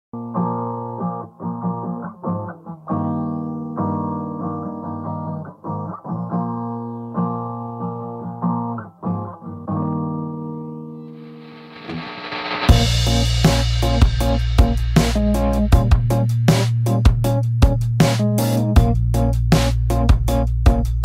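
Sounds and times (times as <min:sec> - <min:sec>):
strummed guitar chords: 0:00.2 - 0:21.0.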